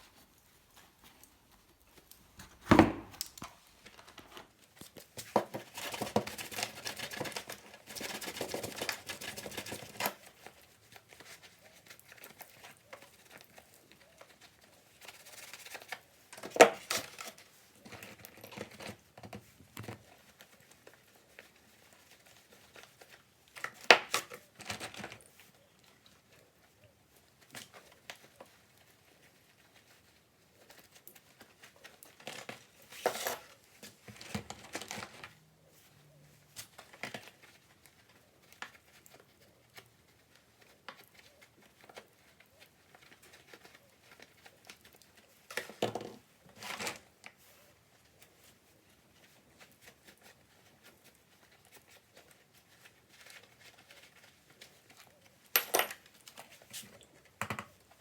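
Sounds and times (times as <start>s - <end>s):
rustling and scraping from hand work: 0.0s - 58.0s.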